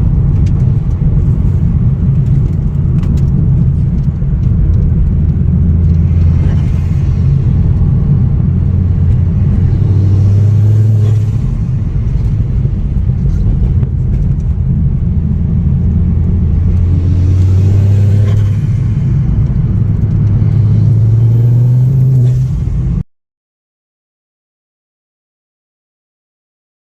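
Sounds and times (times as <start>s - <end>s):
car engine and road drone: 0.0s - 23.0s.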